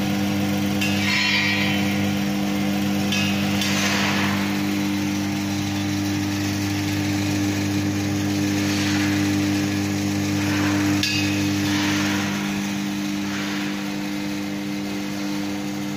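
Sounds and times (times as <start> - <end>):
steady electric motor hum: 0.0 - 15.9.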